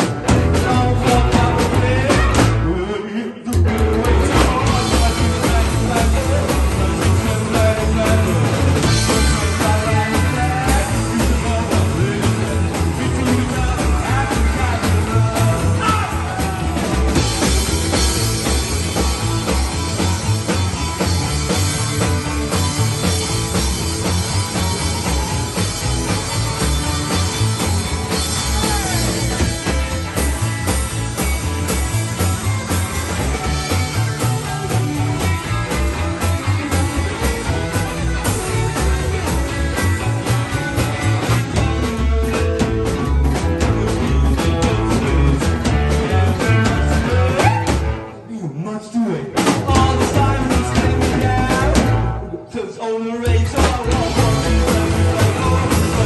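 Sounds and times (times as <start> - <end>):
steady drum beat: 0.0 - 2.8, 3.5 - 48.1, 49.4 - 52.3, 53.3 - 56.0
electric guitar: 0.0 - 48.4, 49.3 - 56.0
bass line: 0.0 - 56.0
rock and roll band playing live: 0.0 - 56.0.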